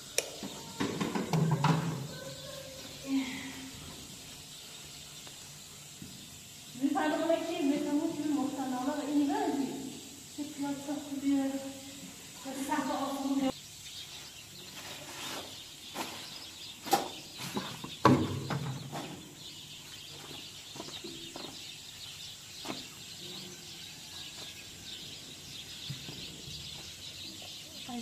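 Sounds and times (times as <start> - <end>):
birds chirping: 0.0 - 28.0
steady high hiss: 0.0 - 28.0.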